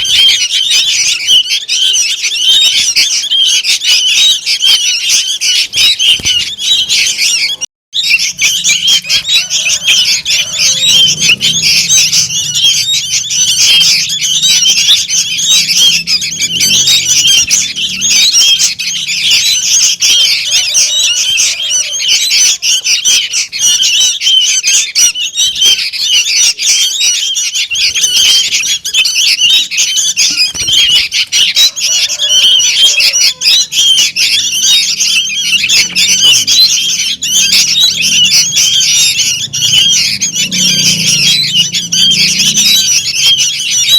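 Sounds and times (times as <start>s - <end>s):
chicks squeaky calls: 0.0s - 43.9s.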